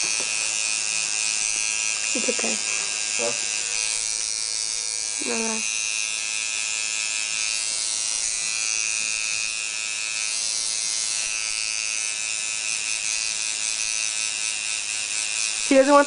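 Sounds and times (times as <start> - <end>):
tattoo machine buzzing: 0.0 - 16.0.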